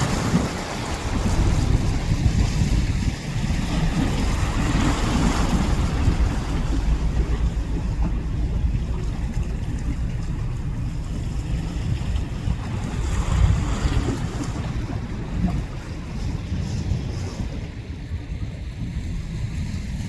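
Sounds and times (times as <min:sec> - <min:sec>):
waves on rough water: 0:00.0 - 0:20.0
wind buffeting microphone: 0:00.0 - 0:20.0.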